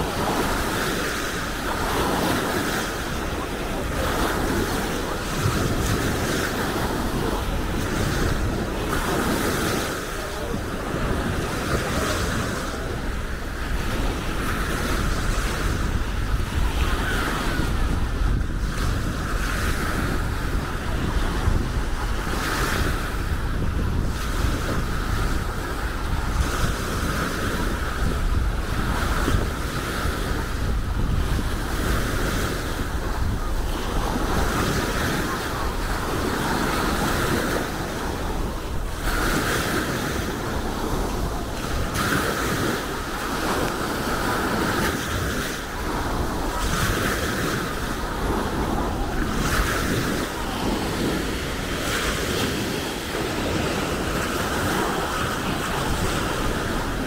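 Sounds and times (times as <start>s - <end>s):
waves washing onto a beach: 0.0s - 57.0s
wind rumbling on microphone: 0.0s - 57.0s.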